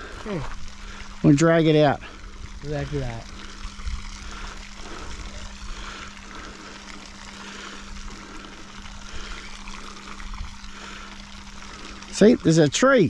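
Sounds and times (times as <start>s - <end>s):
mechanical drone humming: 0.0s - 13.0s
moving water: 0.0s - 13.0s.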